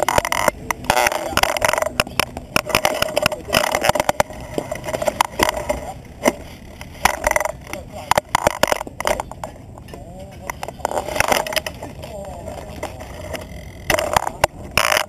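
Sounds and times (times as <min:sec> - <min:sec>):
bike rattling over rough concrete: 0:00.0 - 0:15.0.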